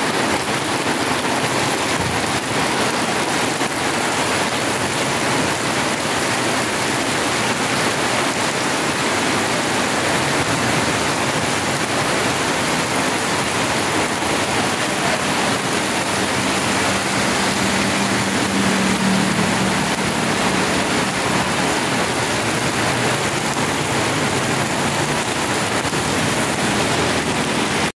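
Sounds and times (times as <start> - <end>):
heavy rain on standing water: 0.0 - 28.0.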